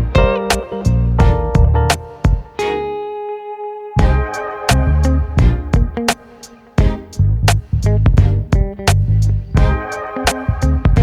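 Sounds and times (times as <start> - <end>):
guitar-led music with bass line: 0.0 - 11.0.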